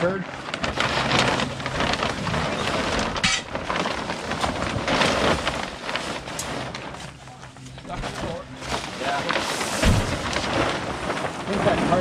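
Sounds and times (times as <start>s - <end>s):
plastic tarp crinkling and rustling: 0.0s - 12.0s
tarp snapping: 0.0s - 12.0s.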